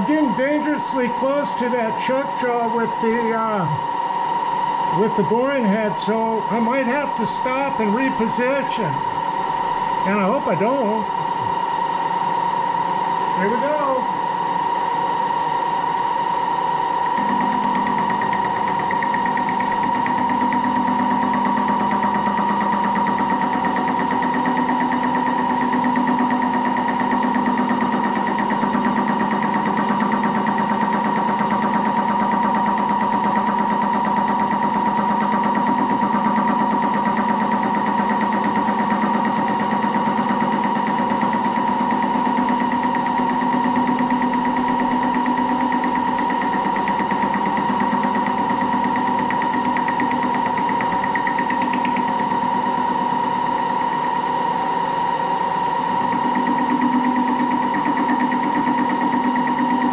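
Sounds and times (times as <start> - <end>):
machine hum with high whine: 0.0 - 59.9.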